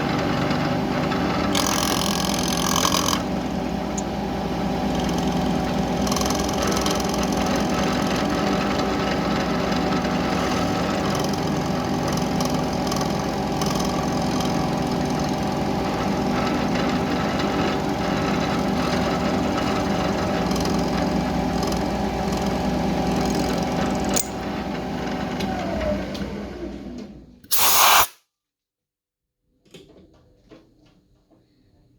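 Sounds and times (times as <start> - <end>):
mill spindle whine: 0.0 - 27.1.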